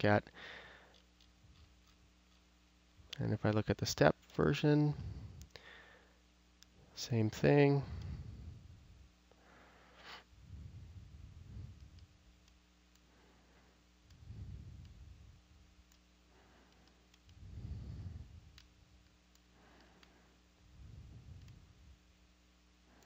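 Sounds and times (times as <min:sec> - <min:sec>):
soft breaths: 0:00.0 - 0:03.7, 0:04.4 - 0:23.0
low steady hum: 0:00.0 - 0:23.0.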